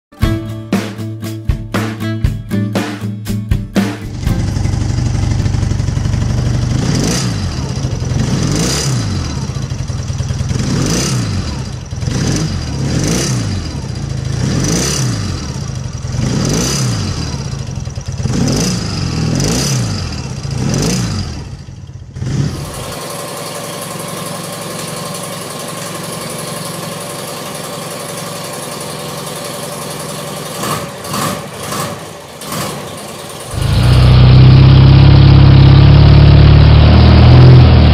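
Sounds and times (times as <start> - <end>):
motorcycle engine revving: 3.9 - 37.9.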